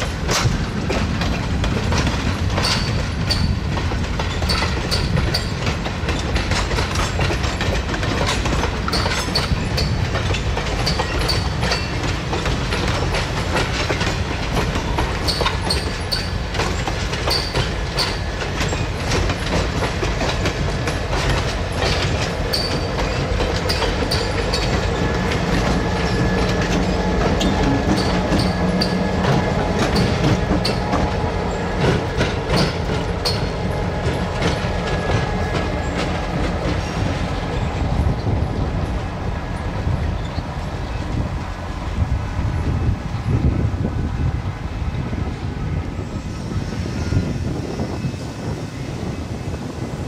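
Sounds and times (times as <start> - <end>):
train wheels clicking over rail joints: 0.0 - 44.1.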